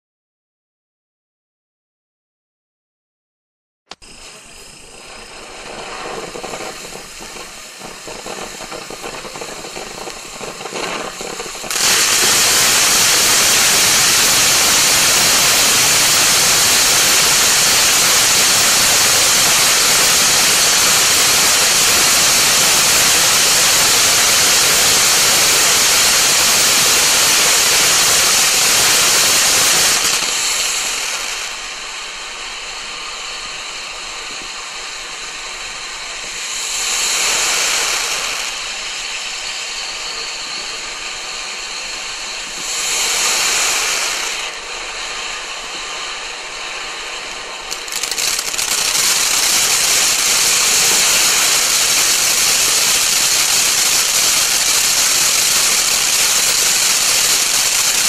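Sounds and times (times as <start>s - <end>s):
firework fountain hissing sparks: 3.9s - 58.0s
firework spitting: 3.9s - 58.0s.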